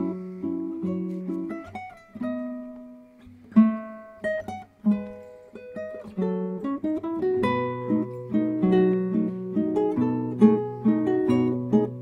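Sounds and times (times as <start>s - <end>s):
acoustic guitar plucking: 0.0s - 12.0s.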